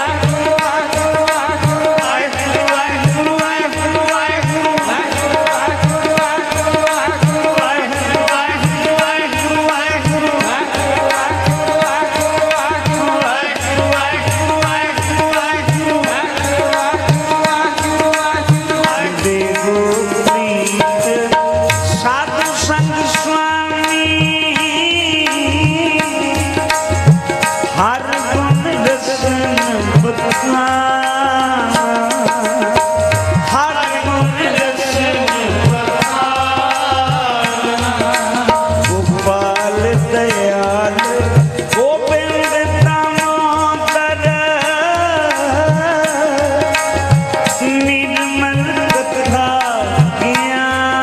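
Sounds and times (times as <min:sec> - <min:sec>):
harmonium melody: 0:00.0 - 0:51.0
tabla rhythm: 0:00.0 - 0:51.0.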